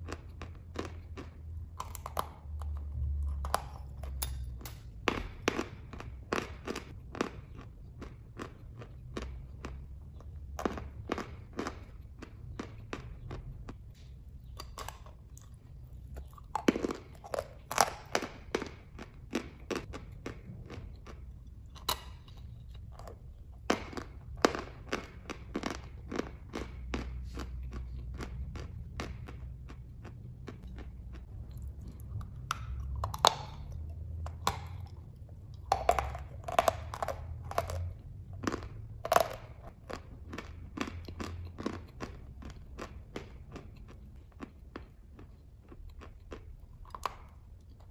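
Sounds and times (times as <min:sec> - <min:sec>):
chalk crunching being chewed: 0:00.0 - 0:47.9.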